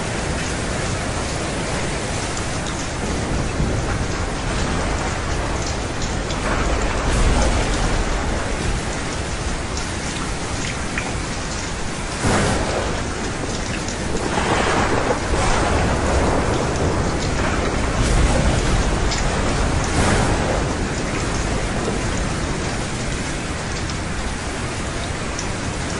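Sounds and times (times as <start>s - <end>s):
steady rain: 0.0s - 25.9s
thunder clap: 0.0s - 25.9s.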